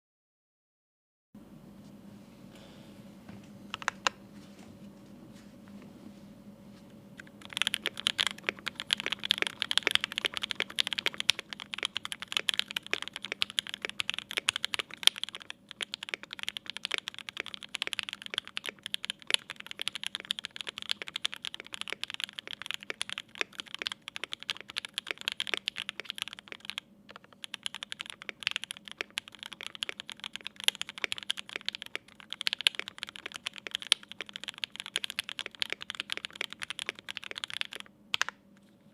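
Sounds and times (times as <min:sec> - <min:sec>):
mechanical keyboard typing: 0:07.2 - 0:38.4.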